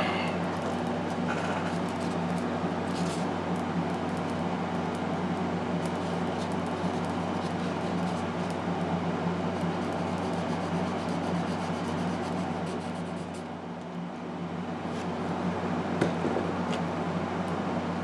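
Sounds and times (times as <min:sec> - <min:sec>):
mechanical hum and hiss: 0:00.0 - 0:18.0.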